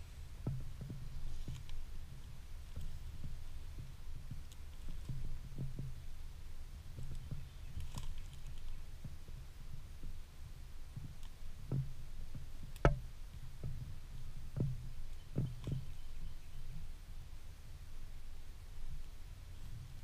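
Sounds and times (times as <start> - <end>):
low microphone rumble: 0.0 - 20.0.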